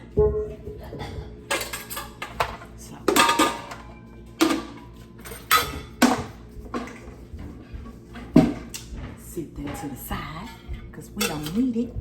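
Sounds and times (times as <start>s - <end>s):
mixing bowls clattering: 0.0s - 12.0s.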